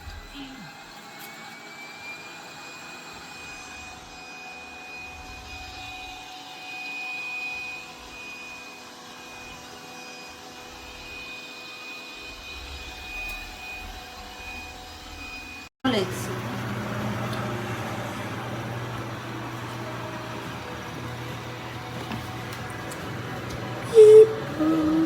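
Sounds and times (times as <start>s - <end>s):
robot vacuum cleaner whining hum: 0.0s - 25.0s.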